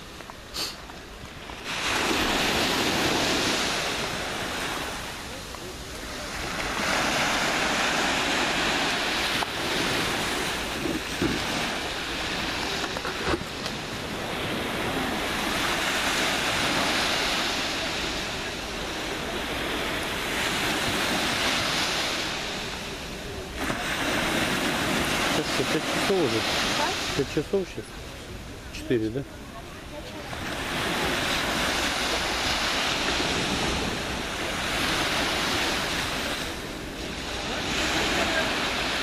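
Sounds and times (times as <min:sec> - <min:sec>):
small waves breaking on beach: 0:00.0 - 0:39.0.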